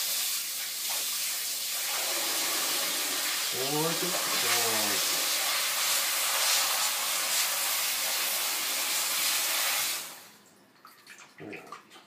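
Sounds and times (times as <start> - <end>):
tap water spraying into sink: 0.0 - 10.3
water splashes and drips: 0.0 - 12.0.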